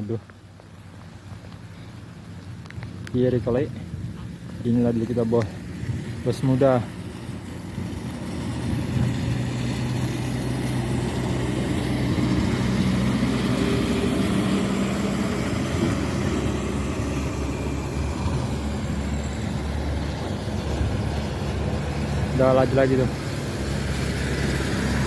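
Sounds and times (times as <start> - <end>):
diesel truck driving past: 3.5 - 25.0.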